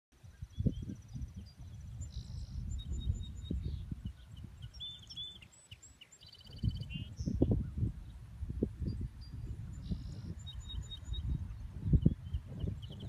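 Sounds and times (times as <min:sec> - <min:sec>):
low wind rumble: 0:00.2 - 0:05.4, 0:06.4 - 0:13.0
small birds chirping: 0:00.2 - 0:13.0.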